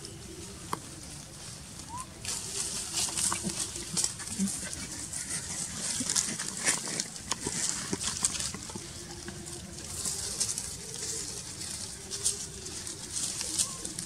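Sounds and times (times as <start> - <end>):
dry leaves and soil scratched: 0.0 - 14.0.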